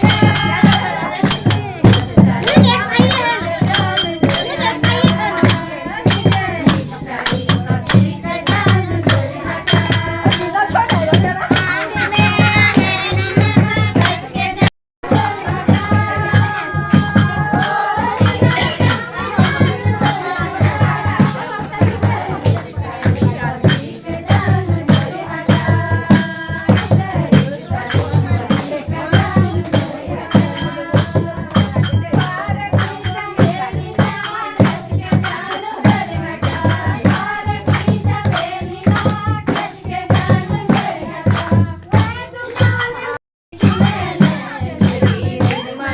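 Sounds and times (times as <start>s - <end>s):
folk singing: 0.0s - 45.9s
jingling rattle percussion: 0.0s - 45.9s
steady drum beat: 0.0s - 45.9s.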